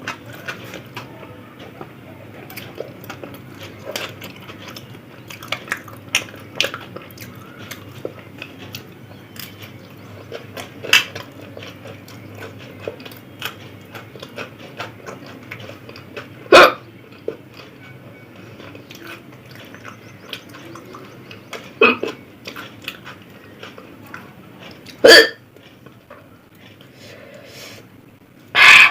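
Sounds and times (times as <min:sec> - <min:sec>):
chewing food: 0:00.0 - 0:27.8.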